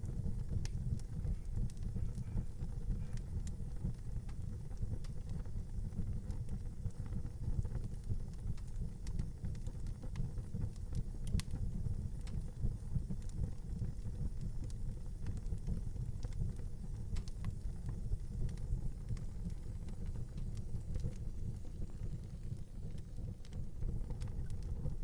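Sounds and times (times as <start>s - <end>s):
fire crackles and pops: 0.0s - 25.0s
fire low rumble: 0.0s - 25.0s.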